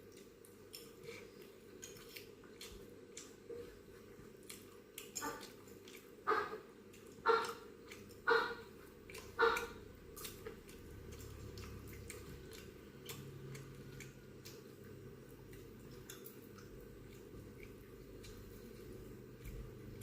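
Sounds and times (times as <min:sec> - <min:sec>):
wet chewing: 0:00.0 - 0:20.0.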